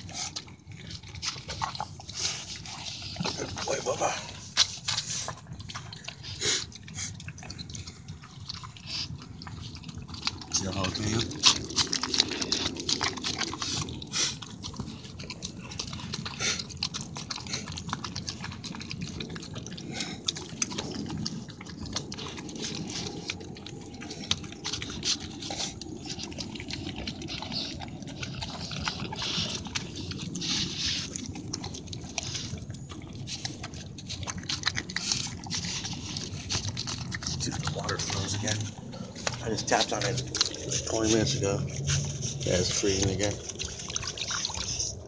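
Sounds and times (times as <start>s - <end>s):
dog chewing food: 0.0s - 45.0s.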